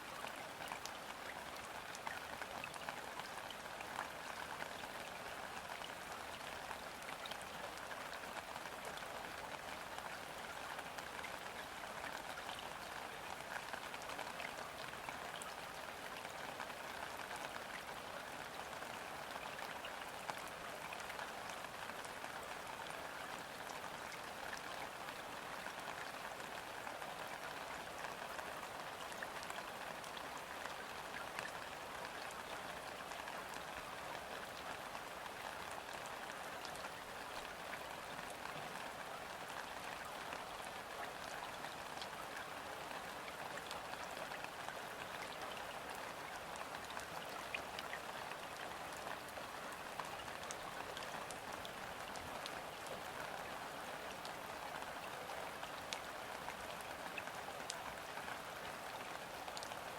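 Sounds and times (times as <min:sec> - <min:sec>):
rain on water: 0:00.0 - 0:59.9.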